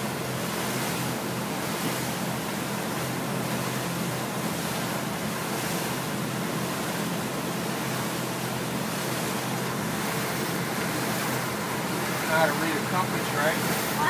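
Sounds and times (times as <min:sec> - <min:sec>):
powerboat engine hum: 0:00.0 - 0:14.0
rush of wind and water: 0:00.0 - 0:14.0.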